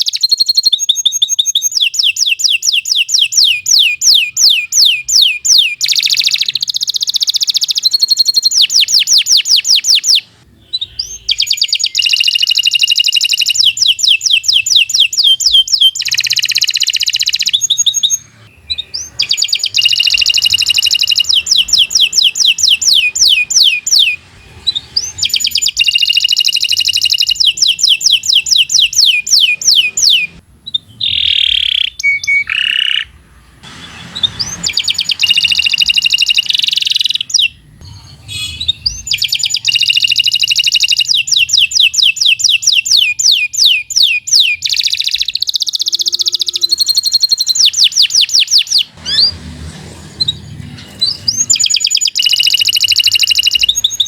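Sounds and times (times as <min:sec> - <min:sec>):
canary singing trills: 0:00.0 - 0:49.4, 0:50.1 - 0:54.0.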